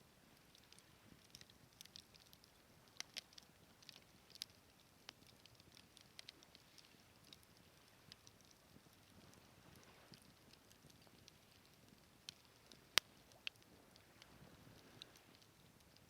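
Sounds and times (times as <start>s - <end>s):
wood bonfire crackling: 0.0s - 16.0s.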